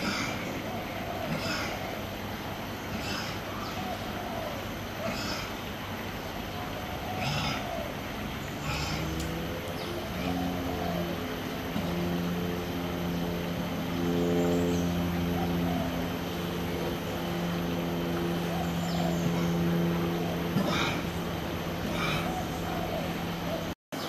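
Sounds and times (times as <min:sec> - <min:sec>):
outdoor background hiss: 0:00.0 - 0:24.0
steady engine drone: 0:00.0 - 0:24.0.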